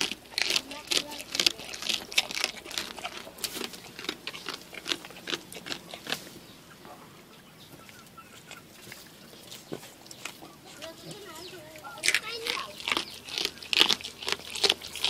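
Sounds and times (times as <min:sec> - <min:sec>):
goat chewing: 0:00.0 - 0:15.0.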